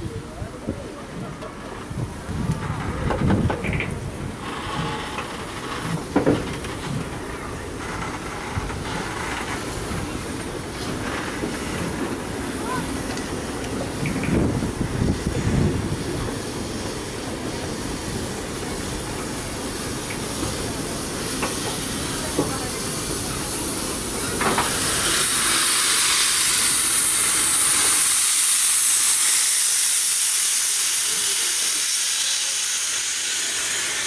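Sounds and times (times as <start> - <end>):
steam locomotive rumbling: 0.0 - 34.0
steam hissing: 1.0 - 34.0.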